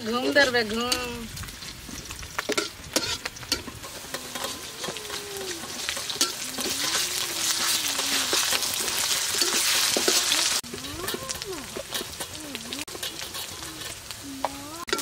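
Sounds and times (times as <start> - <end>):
food sizzling in hot oil: 0.0 - 15.0
spatula scraping: 2.0 - 14.1.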